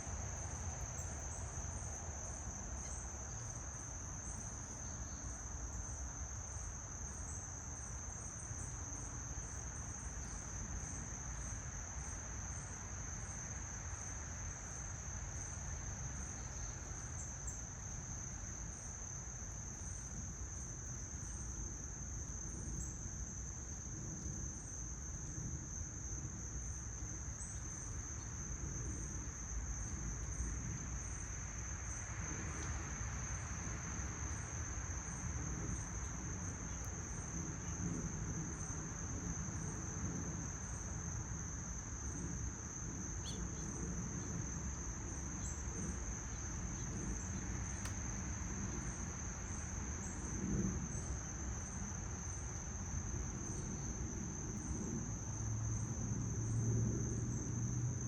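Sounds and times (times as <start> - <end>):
insect chorus trilling: 0.0 - 58.0.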